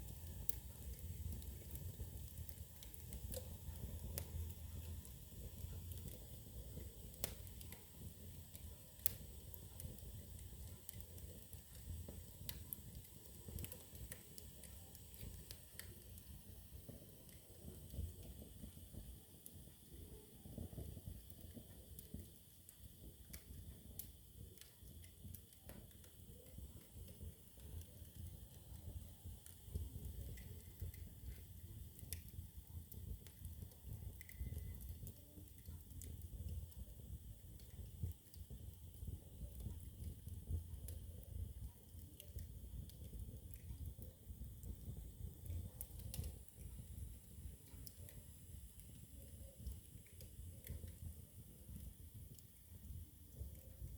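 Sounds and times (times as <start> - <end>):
low flame rumble: 0.0 - 53.9
sharp pops and snaps of fire: 0.0 - 53.9
wood fire crackling: 0.0 - 53.9.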